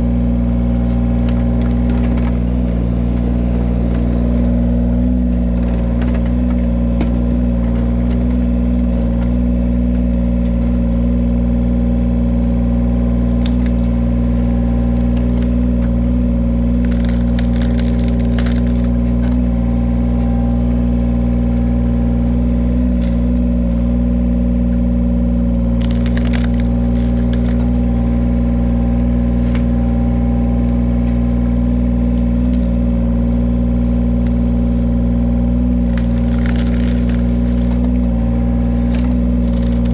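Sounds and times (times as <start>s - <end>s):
wood-cutting machine engine running: 0.0s - 39.9s.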